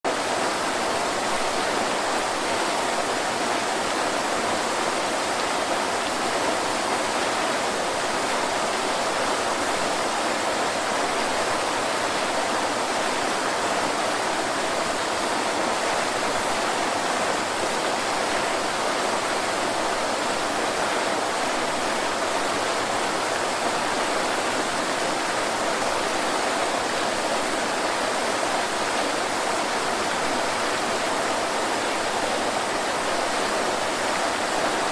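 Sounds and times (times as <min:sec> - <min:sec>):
waterfall splashing: 0:00.0 - 0:34.9.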